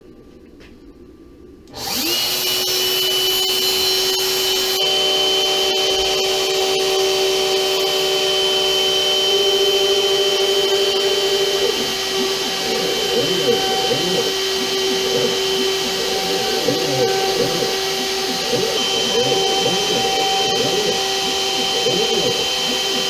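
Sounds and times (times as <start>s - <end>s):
steady tones: 0.3s - 23.0s
router spindle whining: 1.7s - 23.0s.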